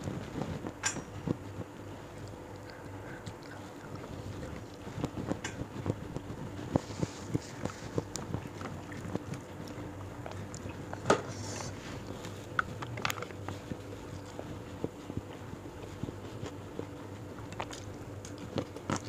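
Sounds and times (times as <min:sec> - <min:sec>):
person chewing: 0:02.0 - 0:19.0.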